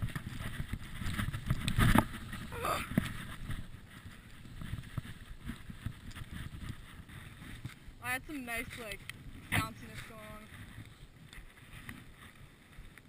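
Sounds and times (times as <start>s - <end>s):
scraping over bumpy snow: 0.0s - 13.0s.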